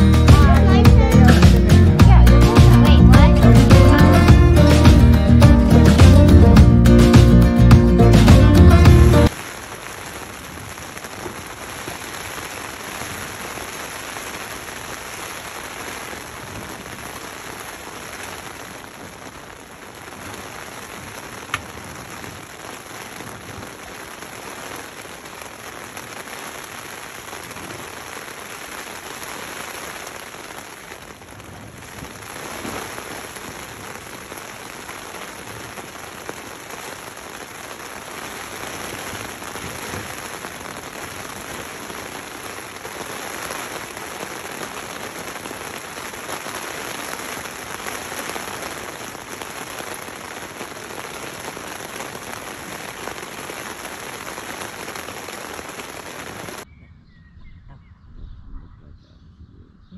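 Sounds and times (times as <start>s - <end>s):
rain pattering on tent fabric: 0.0s - 6.2s, 7.0s - 56.7s.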